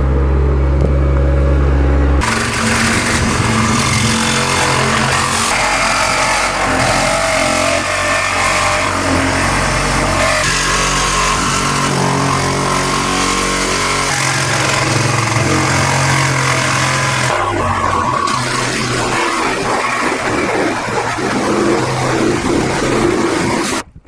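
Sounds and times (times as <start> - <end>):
large vehicle engine running: 0.0 - 23.8.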